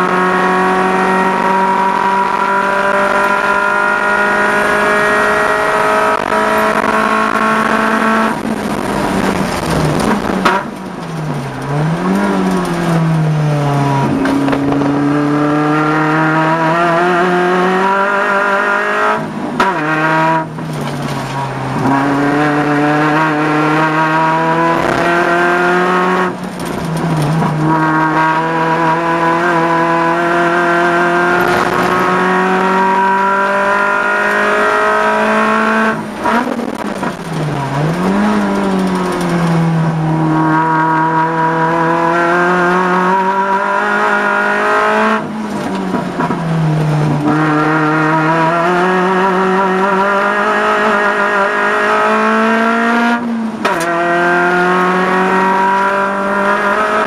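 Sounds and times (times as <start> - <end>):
car engine revving in cabin: 0.0 - 57.0.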